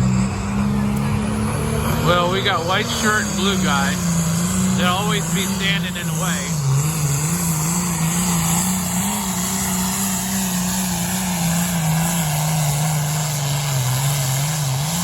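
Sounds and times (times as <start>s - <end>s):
vehicle engine running hard: 0.0s - 15.0s.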